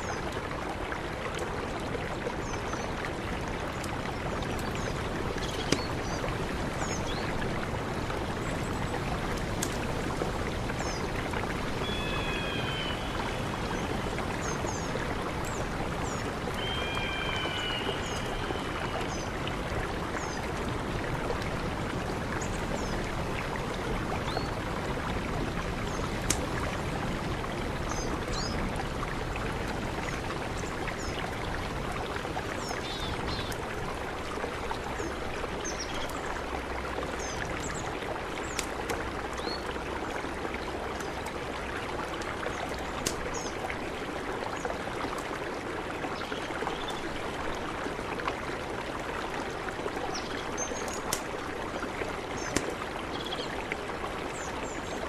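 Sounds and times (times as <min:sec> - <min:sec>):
river rushing: 0:03.0 - 0:55.0.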